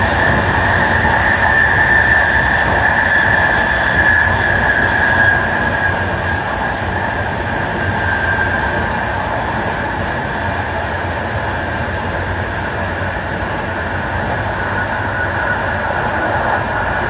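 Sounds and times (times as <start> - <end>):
high whine sinking in pitch: 0.0 - 17.0
train wheels rumbling on rail: 0.0 - 17.0.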